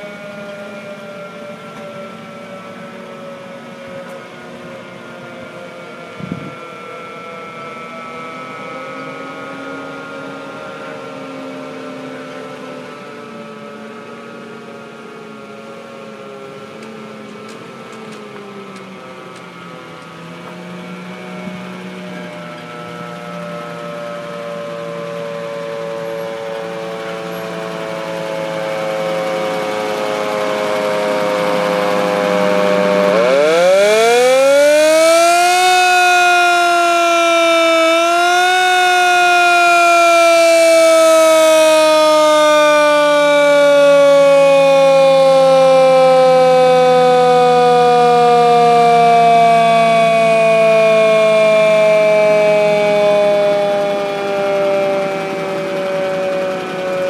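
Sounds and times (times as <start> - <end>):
mechanical siren wailing: 0.0 - 57.0.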